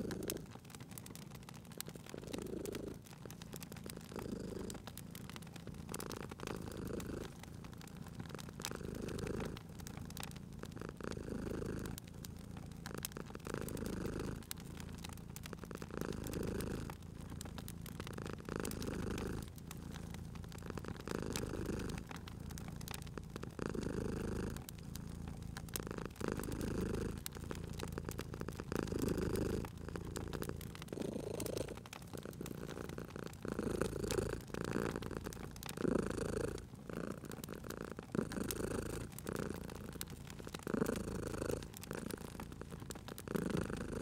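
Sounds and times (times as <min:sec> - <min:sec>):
cat purring: 0:00.0 - 0:44.0
wood fire crackling: 0:00.0 - 0:44.0.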